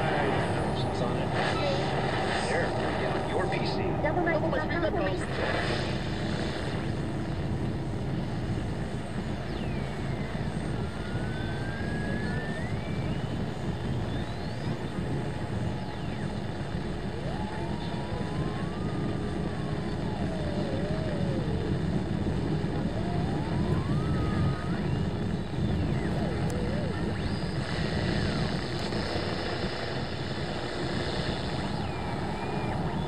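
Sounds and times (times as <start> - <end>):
vehicle engine and road noise: 0.0 - 33.0.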